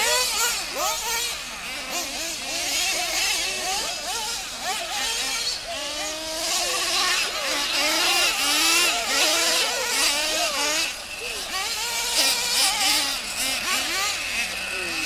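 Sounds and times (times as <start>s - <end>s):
toy truck motors whining: 0.0s - 15.0s.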